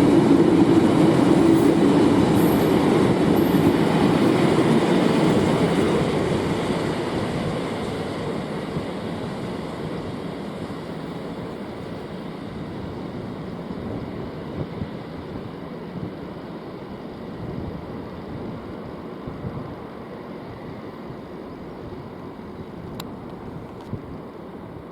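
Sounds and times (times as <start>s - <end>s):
passing train: 0.0s - 24.9s.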